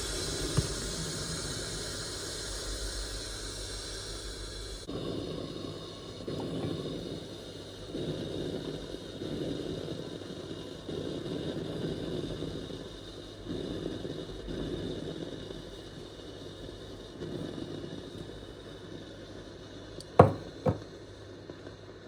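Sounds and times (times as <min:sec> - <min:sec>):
espresso machine humming: 0:00.0 - 0:21.0.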